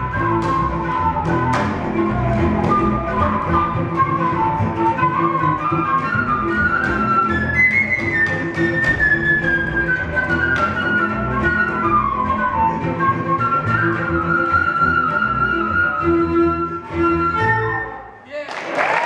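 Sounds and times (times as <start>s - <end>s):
plucked double bass: 0.0s - 18.0s
bowed cello: 0.0s - 18.1s
flute melody: 0.0s - 18.2s.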